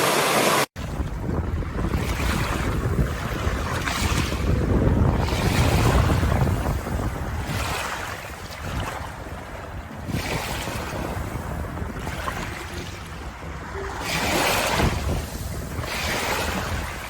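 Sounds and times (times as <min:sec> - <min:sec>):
waves breaking on a shore: 0:00.0 - 0:17.0.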